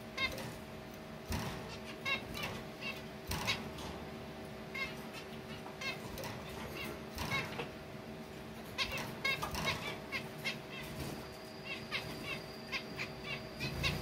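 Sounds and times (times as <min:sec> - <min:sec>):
finches calling: 0:00.0 - 0:00.6, 0:01.3 - 0:03.8, 0:04.7 - 0:08.0, 0:08.7 - 0:14.0.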